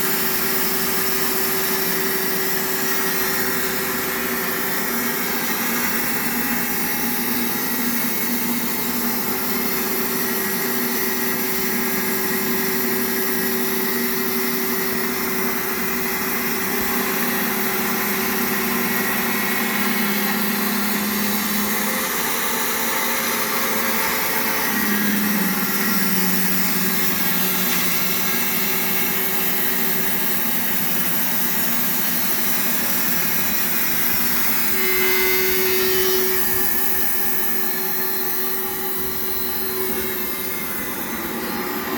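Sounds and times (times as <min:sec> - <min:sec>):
band sawmill motor whine: 0:00.0 - 0:41.9.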